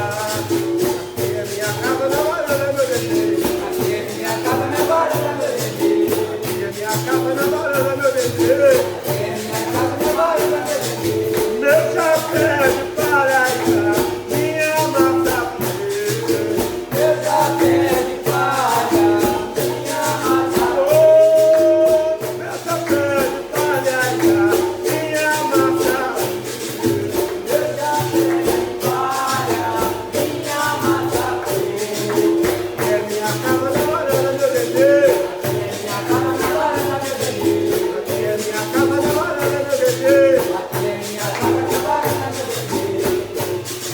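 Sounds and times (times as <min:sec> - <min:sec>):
people singing: 0:00.0 - 0:43.9
shaker rattles: 0:00.0 - 0:43.9
tambourine: 0:00.0 - 0:43.9.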